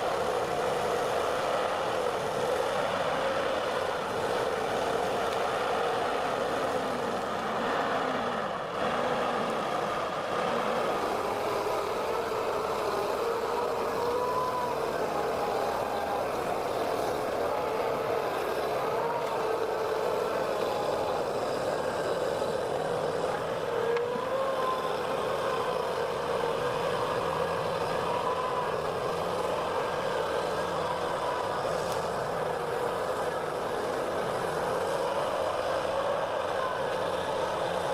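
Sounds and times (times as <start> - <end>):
heavy machine engine running: 0.0 - 37.9.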